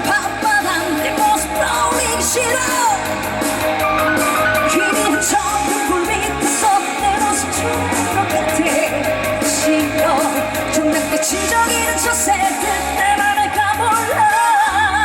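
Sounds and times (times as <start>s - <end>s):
band playing upbeat song: 0.0s - 15.0s
person singing: 0.0s - 15.0s.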